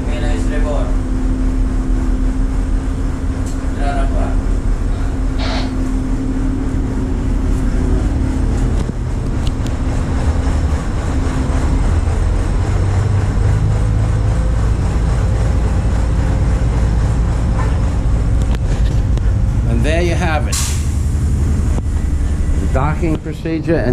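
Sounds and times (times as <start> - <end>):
diesel engines rumbling: 0.0 - 23.9.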